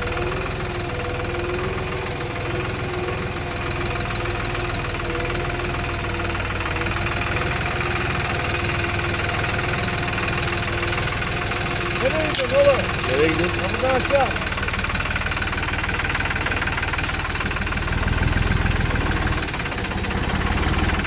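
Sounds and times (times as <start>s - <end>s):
small tractor engine running: 0.0s - 21.0s.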